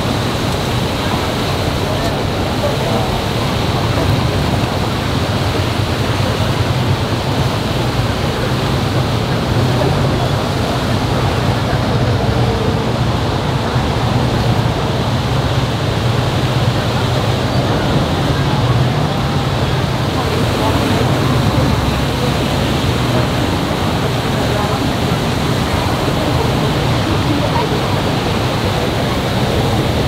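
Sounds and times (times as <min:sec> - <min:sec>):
crowd noise: 0:00.0 - 0:30.0
traffic: 0:00.0 - 0:30.0.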